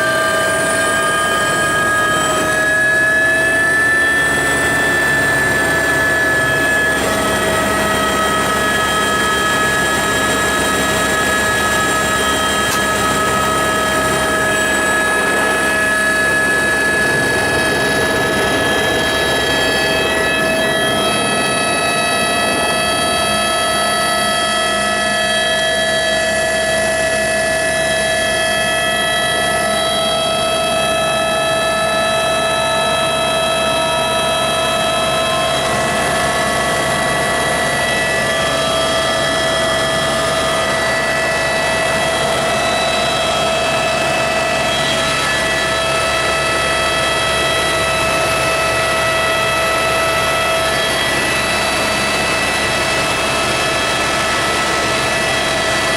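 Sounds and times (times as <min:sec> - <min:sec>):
helicopter turbine and rotor drone: 0:00.0 - 0:55.9
whining tones: 0:00.0 - 0:55.9.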